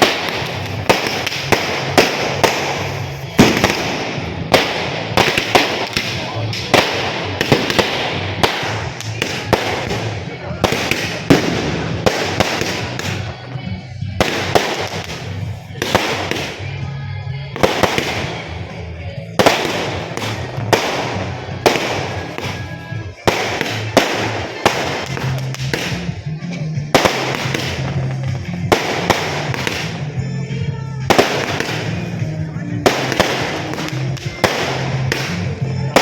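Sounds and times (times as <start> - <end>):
firecrackers banging: 0.0 - 36.0
music playing: 0.0 - 36.0.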